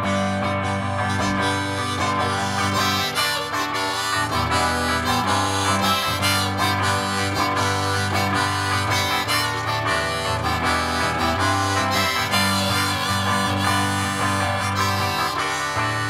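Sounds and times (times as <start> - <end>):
harmonica melody: 0.0 - 16.0
strummed electric guitar: 0.0 - 16.0.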